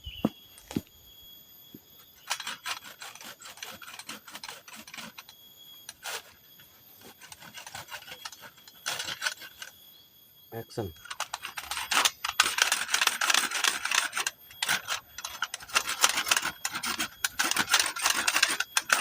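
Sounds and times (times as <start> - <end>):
rustling and scraping materials: 0.0 - 1.0, 1.7 - 9.8, 10.9 - 19.0.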